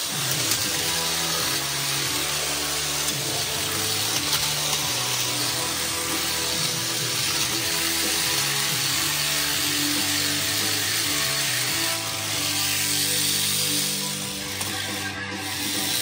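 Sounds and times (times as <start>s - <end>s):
toy cars whirring: 0.0s - 16.0s.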